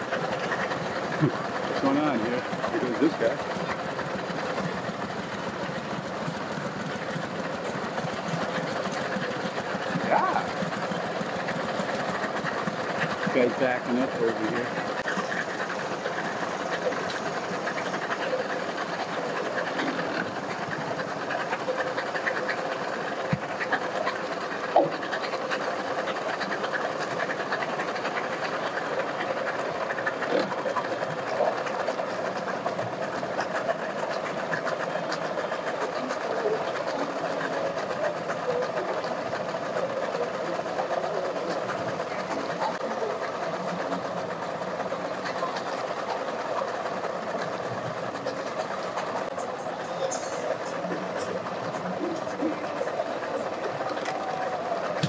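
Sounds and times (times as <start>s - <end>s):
outboard motors idling: 0.0s - 55.0s.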